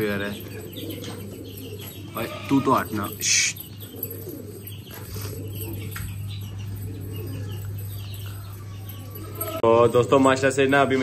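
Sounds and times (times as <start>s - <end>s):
steady low hum: 0.0s - 10.8s
pigeons cooing: 0.0s - 11.0s.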